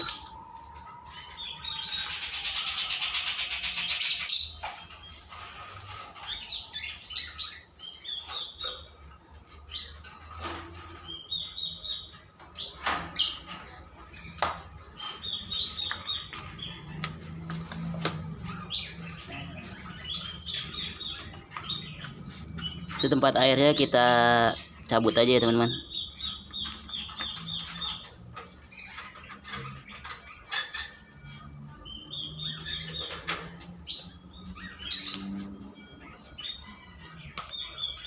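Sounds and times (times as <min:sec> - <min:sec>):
small birds chirping: 0:01.0 - 0:38.0.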